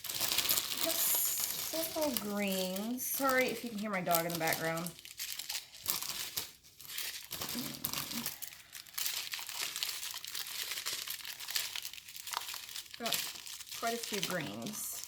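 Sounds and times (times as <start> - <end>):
plastic packets crinkling: 0.0 - 15.0.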